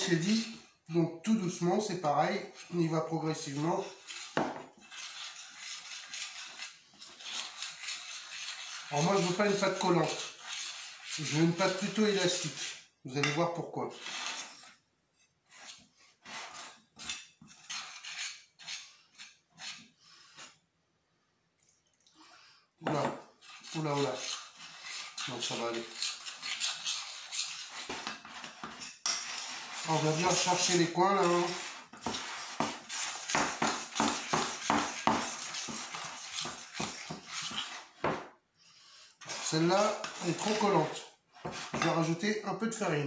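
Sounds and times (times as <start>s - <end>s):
spoon scraping glass bowl: 0.0s - 0.7s, 1.4s - 14.8s, 15.5s - 20.6s, 22.8s - 38.2s, 39.2s - 42.2s.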